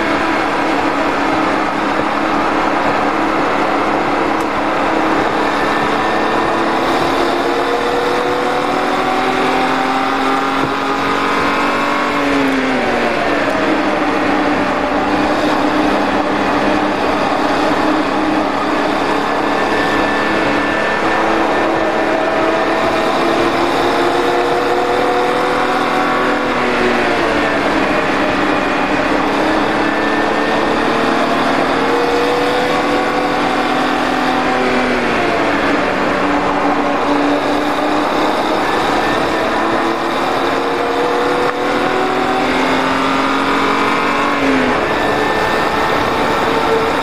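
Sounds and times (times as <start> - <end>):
car engine pulling hard: 0.0 - 47.0
road and wind noise: 0.0 - 47.0.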